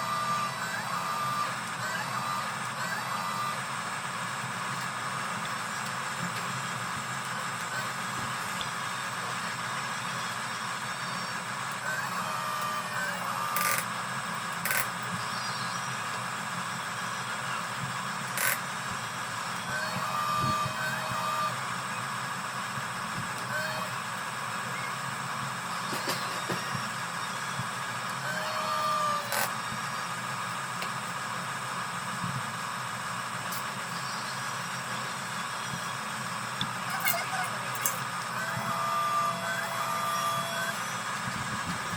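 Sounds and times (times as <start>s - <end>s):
toy bulldozer motors whirring: 0.0s - 41.9s.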